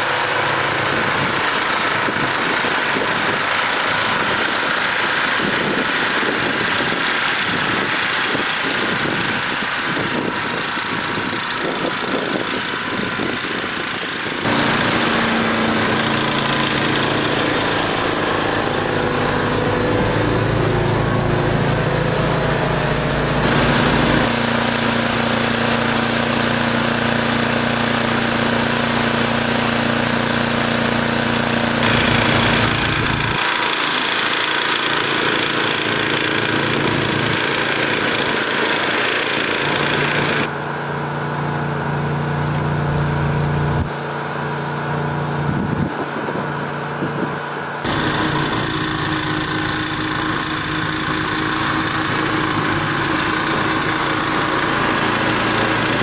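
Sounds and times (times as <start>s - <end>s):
snowblower engine running: 0.0s - 56.0s.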